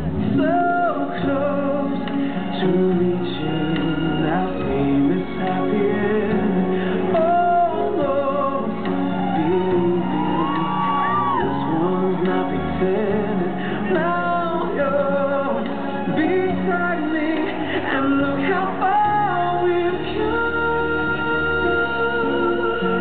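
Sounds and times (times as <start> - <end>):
singer holding long notes: 0.0 - 23.0.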